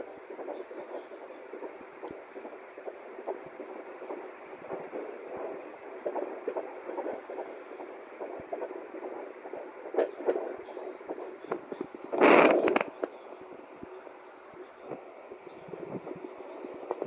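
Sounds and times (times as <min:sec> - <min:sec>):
heartbeat thuds: 0:00.0 - 0:14.2, 0:14.8 - 0:17.0
steady hiss: 0:00.0 - 0:17.0.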